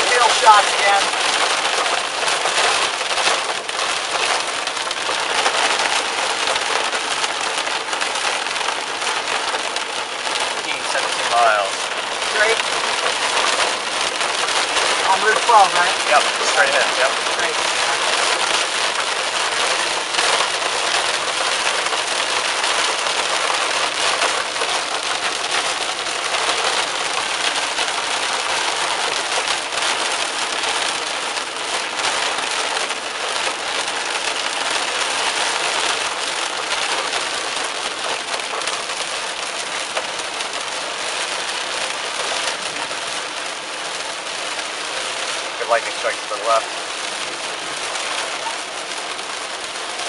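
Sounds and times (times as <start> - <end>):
heavy rain on car roof: 0.0 - 50.0.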